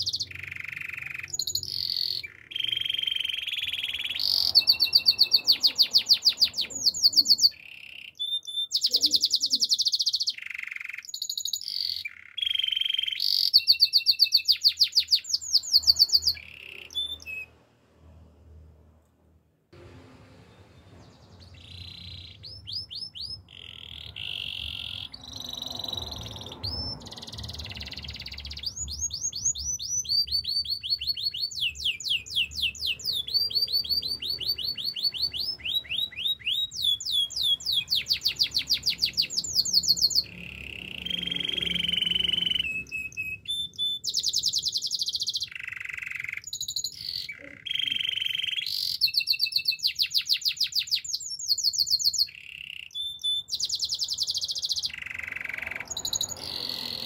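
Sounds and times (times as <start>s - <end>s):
canary singing trills: 0.0s - 17.6s, 20.9s - 57.0s.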